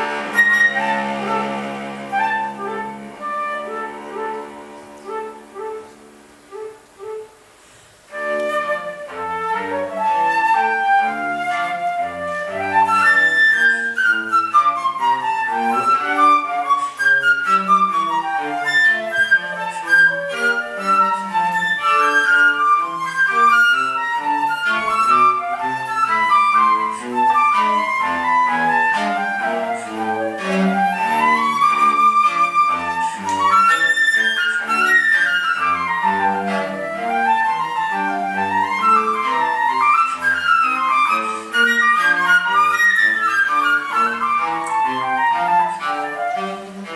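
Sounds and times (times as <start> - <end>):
flute arpeggios: 0.0 - 7.4, 8.1 - 46.9
short cello notes: 0.0 - 46.9.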